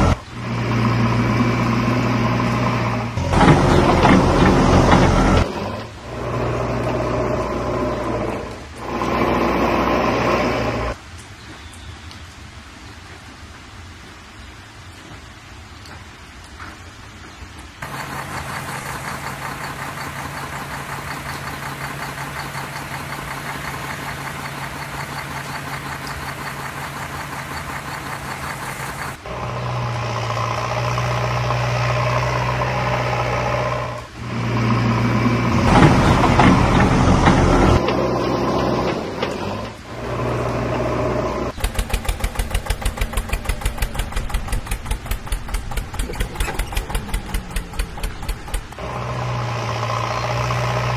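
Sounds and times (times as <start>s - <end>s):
diesel engine sound effect: 0.0s - 11.0s, 17.8s - 50.9s.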